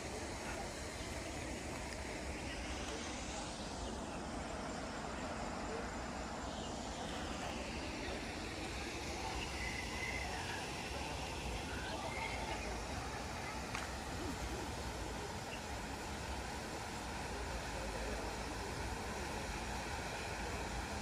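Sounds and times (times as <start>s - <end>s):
even hiss: 0.0s - 21.0s.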